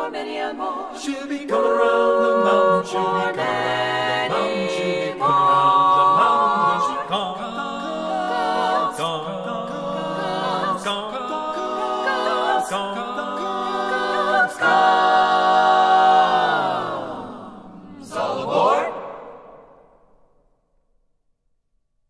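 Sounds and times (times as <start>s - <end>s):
vocal group singing in harmony: 0.0s - 20.2s.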